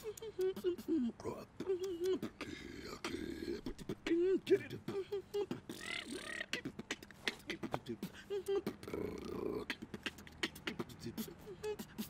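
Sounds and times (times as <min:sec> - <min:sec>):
beatboxing: 0:00.0 - 0:12.0.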